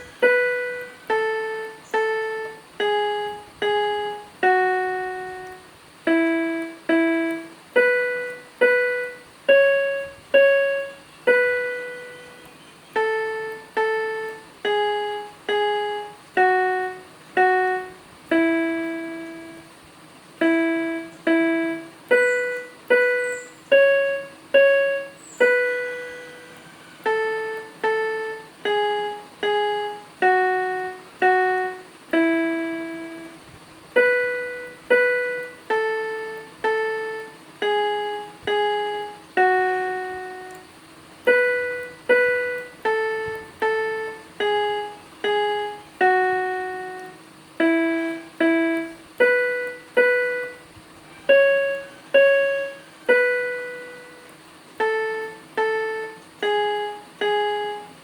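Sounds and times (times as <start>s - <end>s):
simple piano melody: 0.0s - 58.0s.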